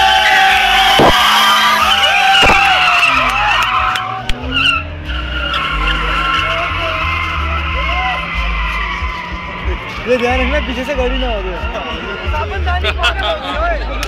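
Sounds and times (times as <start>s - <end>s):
car engine revving: 0.0s - 13.0s
tyres squealing: 0.3s - 12.3s.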